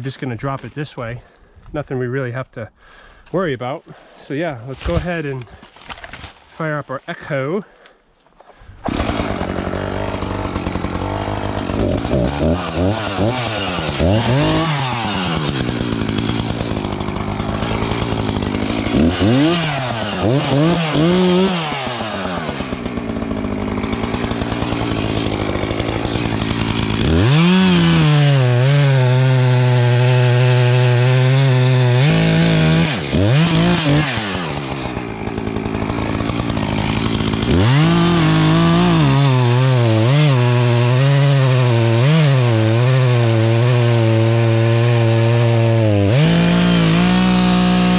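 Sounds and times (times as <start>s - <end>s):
chainsaw revving: 8.8s - 47.9s.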